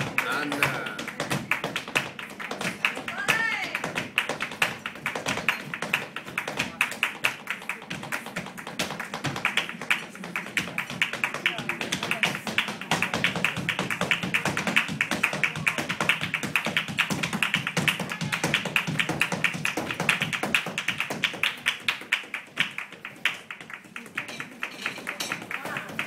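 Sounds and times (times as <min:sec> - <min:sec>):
flamenco music: 0:00.0 - 0:26.0
heel and toe dance taps: 0:00.0 - 0:26.0.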